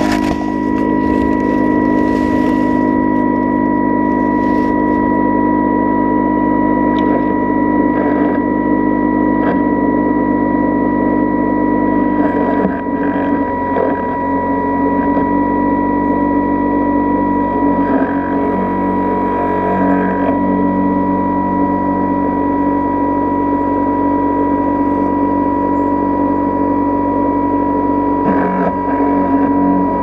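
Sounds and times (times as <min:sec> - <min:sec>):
electric motor humming and whining: 0:00.0 - 0:30.0.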